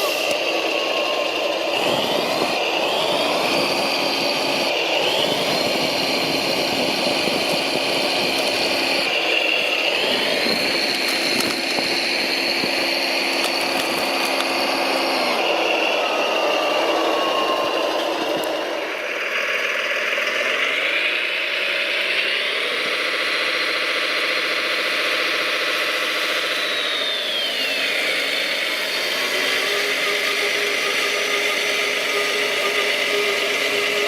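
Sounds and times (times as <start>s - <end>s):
electric motors whining: 0.0s - 34.0s
steady mechanical whir: 0.0s - 34.0s.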